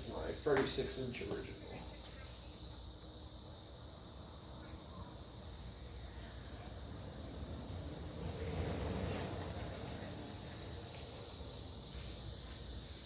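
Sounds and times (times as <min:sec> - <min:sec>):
ceiling fan air rumbling: 0:00.0 - 0:13.0
crickets chirring: 0:00.0 - 0:13.0.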